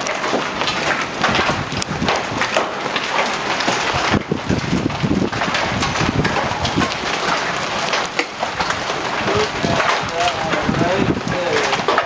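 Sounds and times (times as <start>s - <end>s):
hailstones striking hard surfaces: 0.0s - 12.0s
rush of falling hail: 0.0s - 12.0s.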